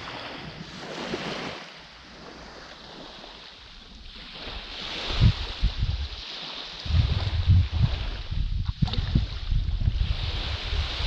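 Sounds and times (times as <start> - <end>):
small waves on sandy shore: 0.0 - 11.0
wind rumble on microphone: 0.0 - 11.0.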